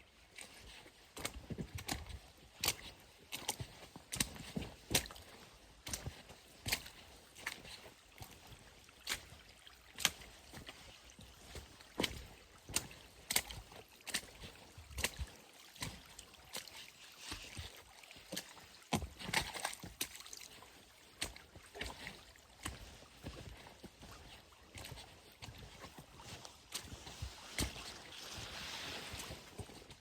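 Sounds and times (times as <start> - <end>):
footsteps crunching on trail: 0.1 - 30.0.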